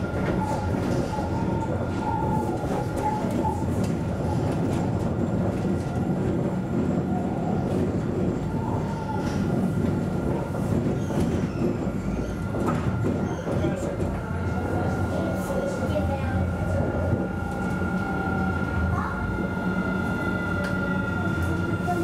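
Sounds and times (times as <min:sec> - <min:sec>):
tram wheels rumbling on rail: 0:00.0 - 0:22.0.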